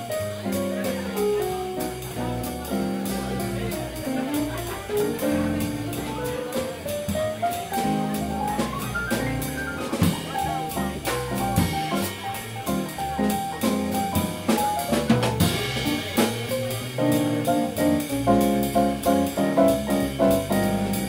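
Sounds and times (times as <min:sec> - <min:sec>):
bass: 0:00.0 - 0:21.0
piano chords and melody: 0:00.0 - 0:21.0.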